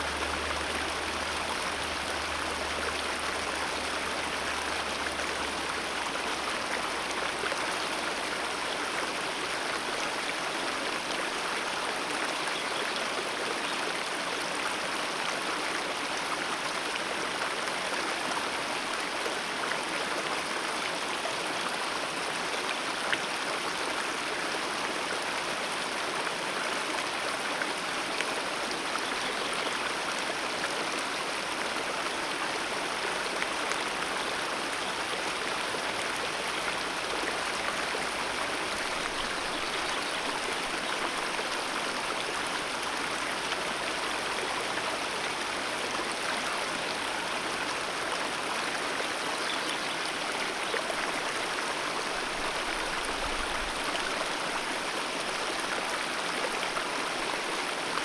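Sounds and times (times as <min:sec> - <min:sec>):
river flowing over rocks: 0:00.0 - 0:12.3, 0:13.2 - 0:58.0.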